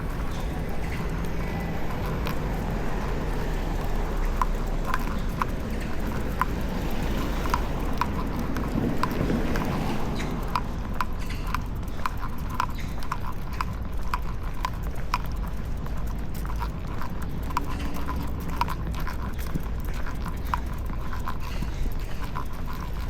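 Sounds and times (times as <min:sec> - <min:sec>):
dog claws clicking on pavement: 0:00.0 - 0:23.0
steady low rumble: 0:00.0 - 0:23.0.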